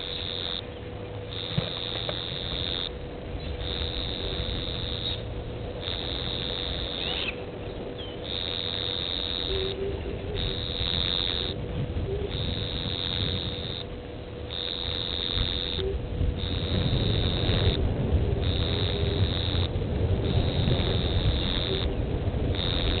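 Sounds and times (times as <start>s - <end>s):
insect buzzing call: 0.0s - 17.8s, 18.4s - 23.0s
steady low rumble: 0.0s - 23.0s.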